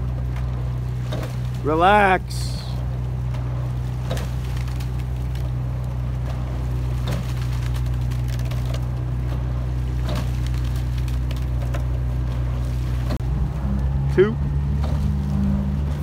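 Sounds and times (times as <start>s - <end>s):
motorboat engine humming: 0.0s - 16.0s
oars splashing: 0.0s - 16.0s.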